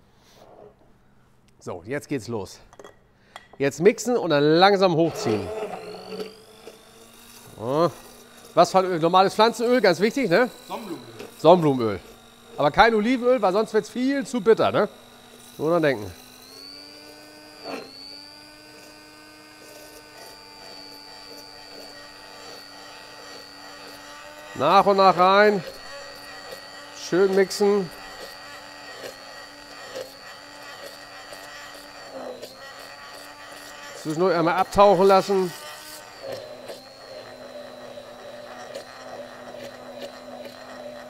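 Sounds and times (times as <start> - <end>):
stick blender motor humming: 3.3 - 41.0.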